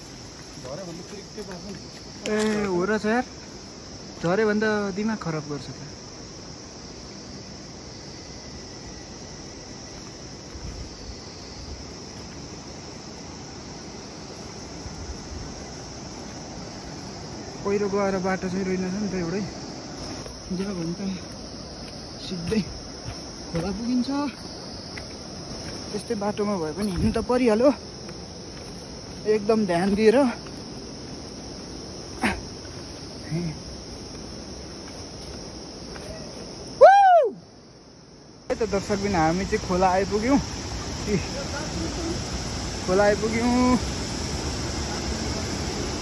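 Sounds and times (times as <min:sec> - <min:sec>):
insects buzzing: 0:00.0 - 0:46.0.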